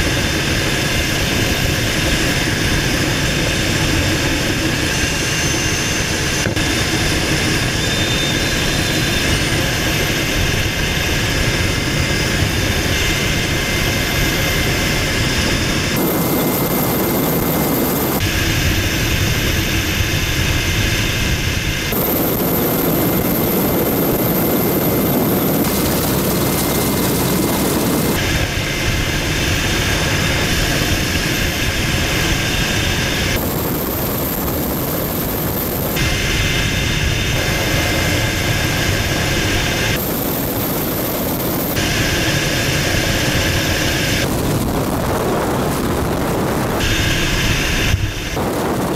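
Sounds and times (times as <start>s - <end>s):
helicopter engines and rotor: 0.0s - 48.9s
high turbine whine: 0.0s - 48.9s.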